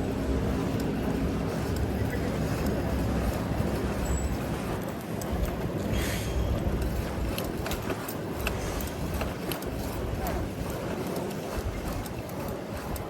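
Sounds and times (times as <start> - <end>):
street traffic passing: 0.0 - 13.0
wind rumble on microphone: 0.0 - 13.0.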